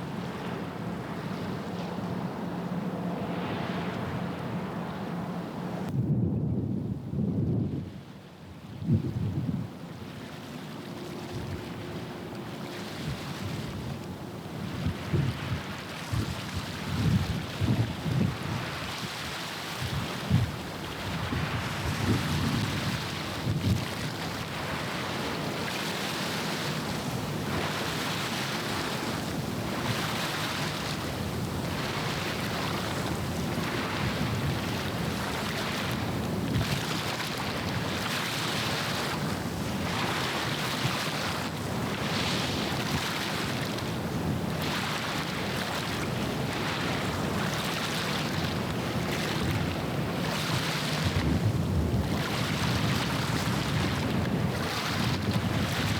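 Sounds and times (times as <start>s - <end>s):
wind buffeting microphone: 5.8s - 9.8s, 11.2s - 55.9s
water washing against shore: 9.8s - 55.9s.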